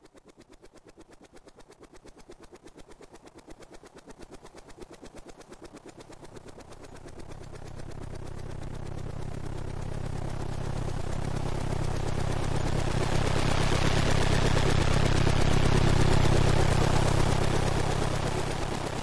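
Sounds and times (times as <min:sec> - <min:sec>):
helicopter rotor chop and engine: 0:00.0 - 0:19.0.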